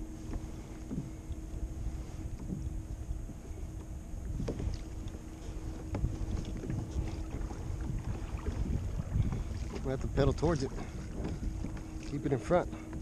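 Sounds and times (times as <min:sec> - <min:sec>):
water slapping against hull: 0:00.0 - 0:13.0
wind buffeting microphone: 0:00.0 - 0:13.0.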